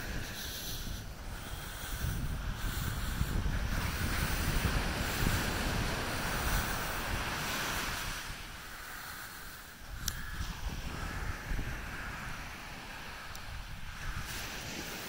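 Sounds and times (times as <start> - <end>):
ocean surf washing on beach: 0.0 - 15.0
wind buffeting microphone: 0.0 - 15.0.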